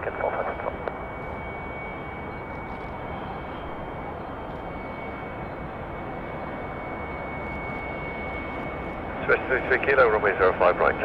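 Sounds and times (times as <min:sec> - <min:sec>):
distant jet engines running: 0:00.0 - 0:11.0.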